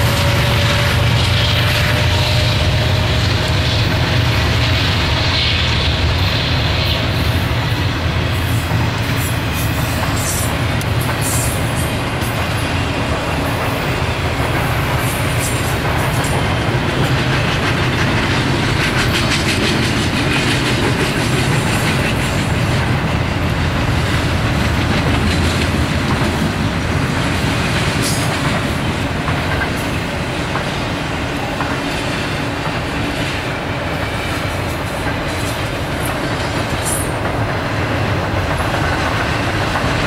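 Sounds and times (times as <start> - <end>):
steel wheels on rails: 0.0 - 40.0
wheels clicking over rail joints: 7.0 - 40.0.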